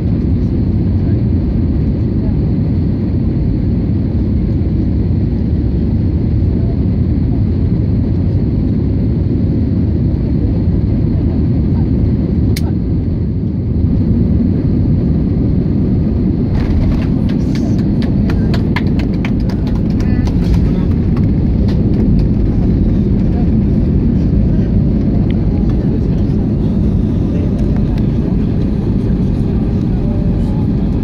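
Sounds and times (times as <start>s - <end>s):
jet engine rumble and rushing air: 0.0s - 31.0s.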